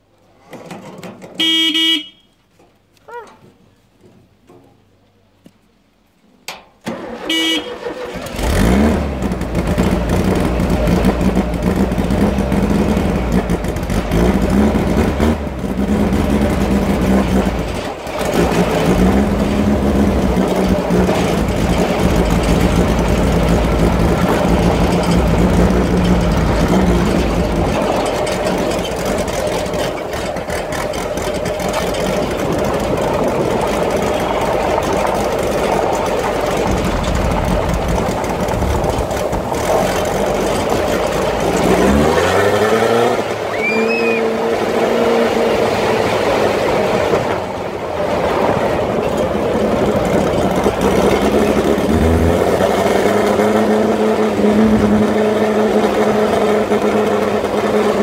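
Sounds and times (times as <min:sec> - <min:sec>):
buggy engine starting and revving: 0:06.5 - 0:58.0.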